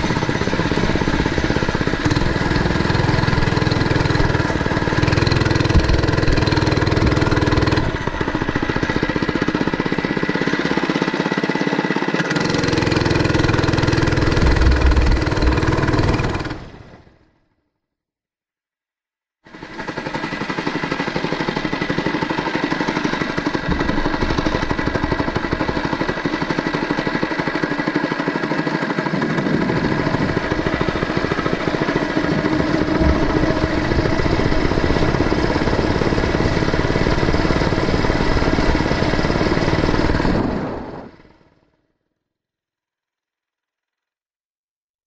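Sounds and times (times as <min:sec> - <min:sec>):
mini bike engine running: 0:00.0 - 0:17.1, 0:19.5 - 0:41.6.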